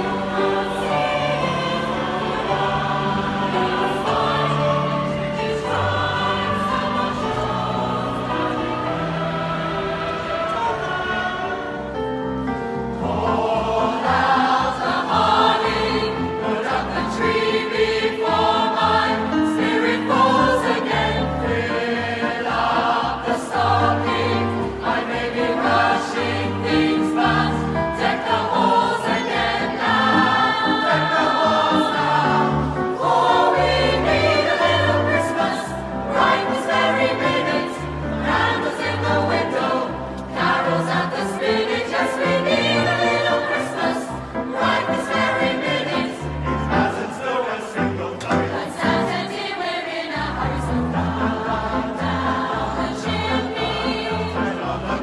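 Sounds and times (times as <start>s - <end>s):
mixed choir singing: 0.0s - 55.0s.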